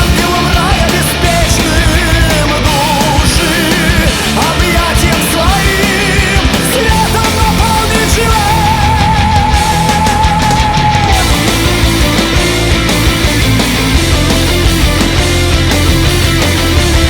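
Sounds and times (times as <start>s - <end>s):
heavy rock music: 0.0s - 17.0s.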